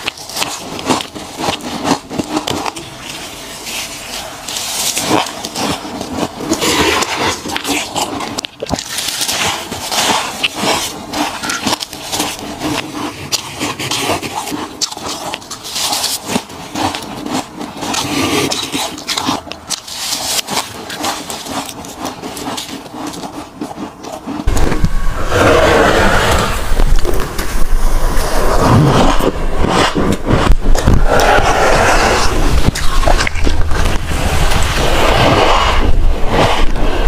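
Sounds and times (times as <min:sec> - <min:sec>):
ice crunching when chewed: 0:00.0 - 0:25.0, 0:25.8 - 0:37.0.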